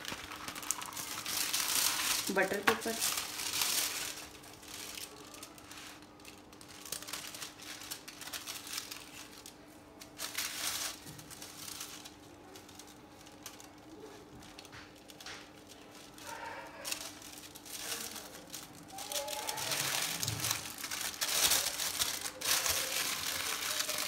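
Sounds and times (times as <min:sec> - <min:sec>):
paper crinkling and rustling: 0:00.0 - 0:24.0.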